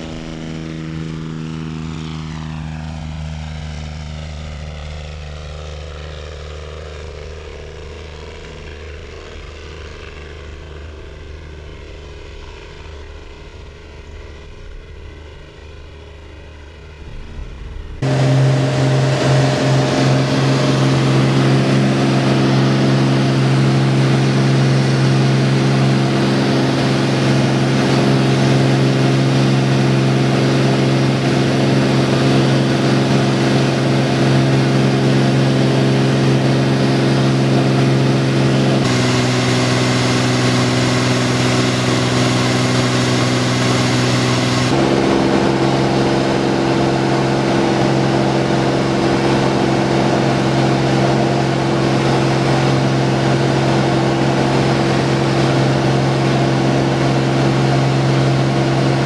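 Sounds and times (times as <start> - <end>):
aircraft engine drone: 0.0 - 59.0.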